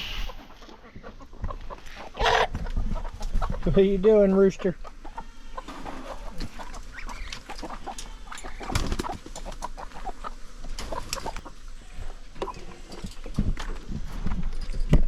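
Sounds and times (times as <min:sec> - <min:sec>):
chickens clucking: 0:00.0 - 0:14.4.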